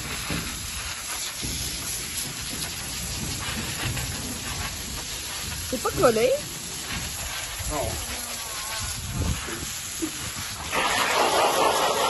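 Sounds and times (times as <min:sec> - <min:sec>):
hose spraying water on vinyl: 0:00.0 - 0:12.0.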